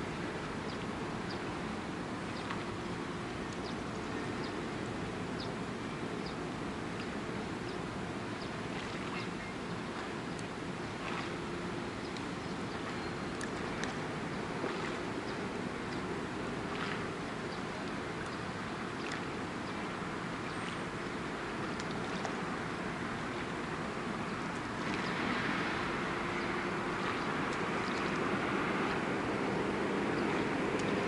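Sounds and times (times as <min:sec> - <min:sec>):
sea water lapping: 0:00.0 - 0:31.0
wind: 0:00.0 - 0:31.0.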